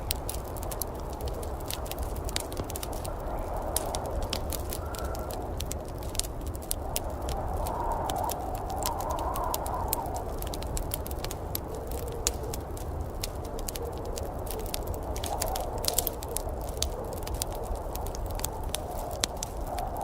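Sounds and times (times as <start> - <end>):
storm rumbling: 0.0 - 20.0
wood fire crackling: 0.0 - 20.0.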